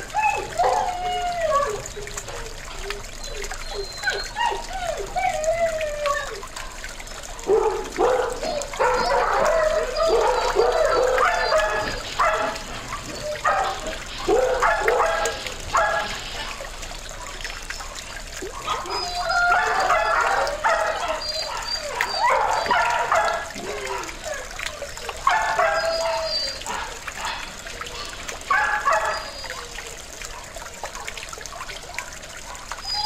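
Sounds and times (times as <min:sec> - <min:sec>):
dogs barking and yapping: 0:00.0 - 0:33.0
fountain trickling: 0:00.0 - 0:33.0.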